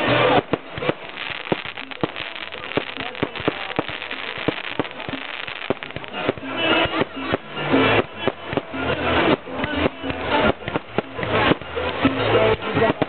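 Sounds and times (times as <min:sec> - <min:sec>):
fireworks popping and crackling: 0:00.0 - 0:13.0
loud music with a beat: 0:00.0 - 0:13.0.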